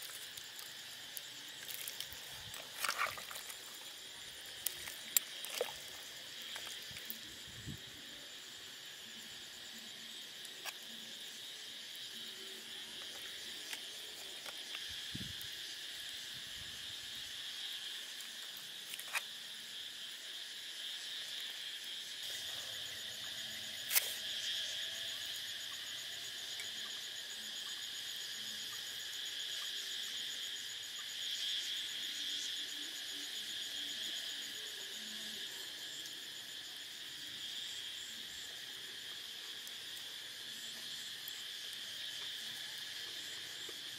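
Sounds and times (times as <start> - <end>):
night insects chirring: 0.0 - 43.9.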